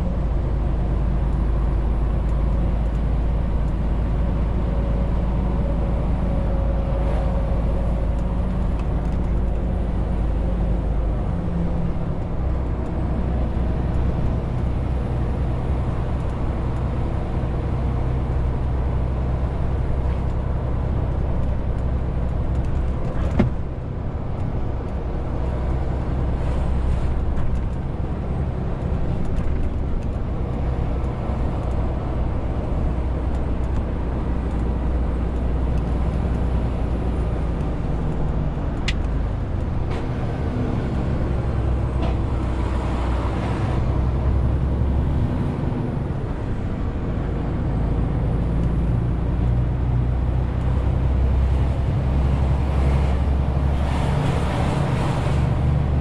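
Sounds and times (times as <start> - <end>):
truck diesel engine droning: 0.0 - 56.0
tyre and road noise: 0.0 - 56.0.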